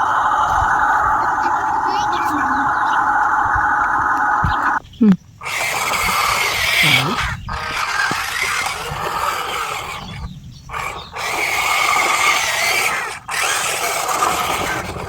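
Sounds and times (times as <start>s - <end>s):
electric motor and gearbox whine: 0.0s - 4.8s, 5.4s - 15.0s.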